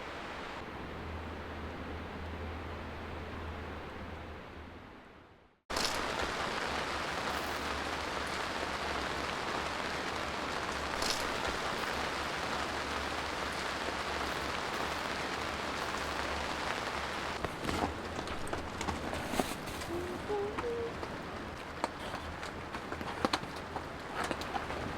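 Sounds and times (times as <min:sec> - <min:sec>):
heavy rain: 0:00.0 - 0:04.5, 0:05.7 - 0:24.9.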